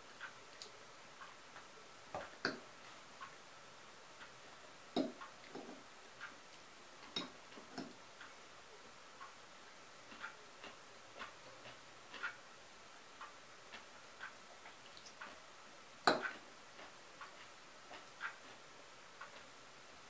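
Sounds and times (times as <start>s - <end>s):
clock ticking: 0.0s - 12.5s, 13.1s - 15.5s, 16.1s - 19.6s.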